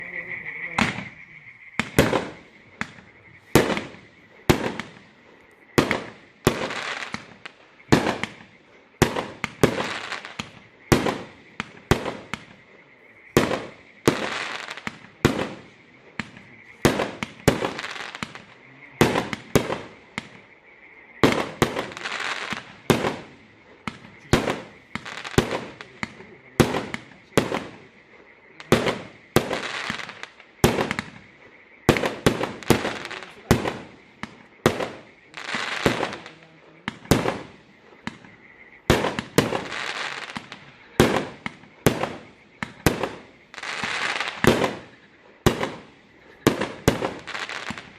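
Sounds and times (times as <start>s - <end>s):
crackle and echo: 0.0s - 47.9s
firework cake bangs: 1.8s - 5.2s, 5.8s - 12.7s, 13.3s - 20.4s, 21.2s - 28.0s, 28.6s - 47.9s.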